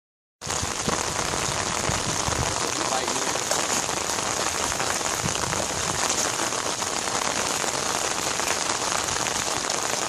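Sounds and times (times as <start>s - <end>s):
steady rain falling: 0.4s - 10.0s.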